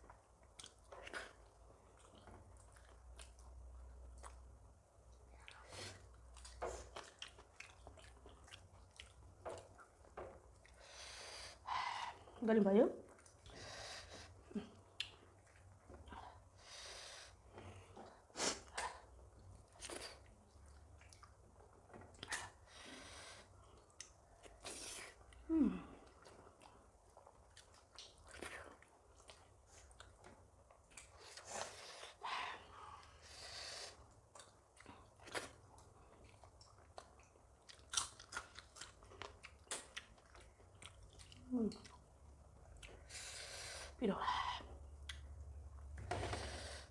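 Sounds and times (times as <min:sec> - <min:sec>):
soft chewing and mouth clicks: 0:00.0 - 0:46.9.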